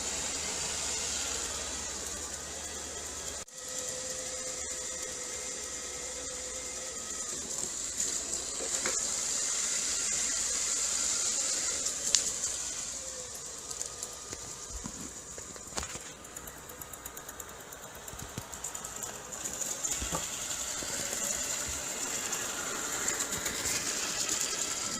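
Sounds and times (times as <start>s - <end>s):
robot vacuum cleaner whirring: 0.0s - 24.9s.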